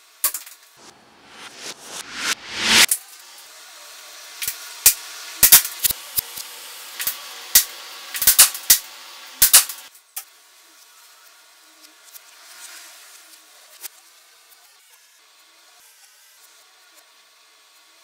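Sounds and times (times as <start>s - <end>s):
steady hiss: 0.8s - 18.0s.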